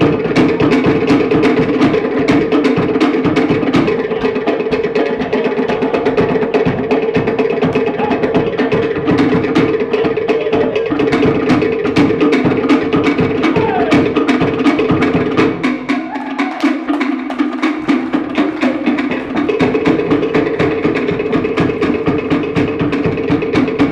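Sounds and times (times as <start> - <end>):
deep skin drum: 0.0 - 23.9.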